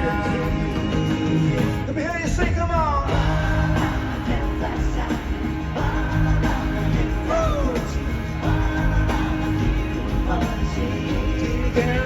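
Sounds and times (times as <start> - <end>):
crowd singing along: 0.0 - 12.0
live band playing: 0.0 - 12.0.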